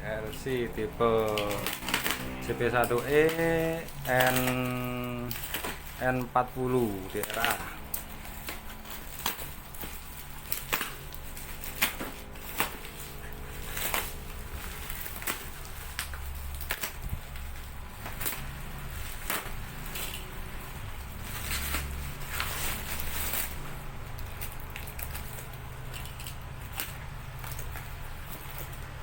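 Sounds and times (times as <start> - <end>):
low steady hum: 0.0 - 29.0
packaging clicks and crinkles: 0.0 - 29.0.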